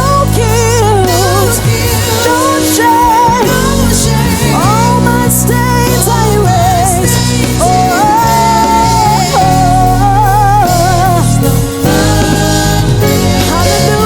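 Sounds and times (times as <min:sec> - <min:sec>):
lead voice singing with vibrato: 0:00.0 - 0:14.0
sustained bass and keys: 0:00.0 - 0:14.0.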